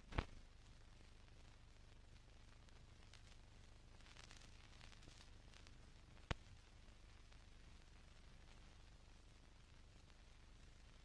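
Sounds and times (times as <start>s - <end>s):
old film soundtrack hiss and crackle: 0.0s - 11.0s.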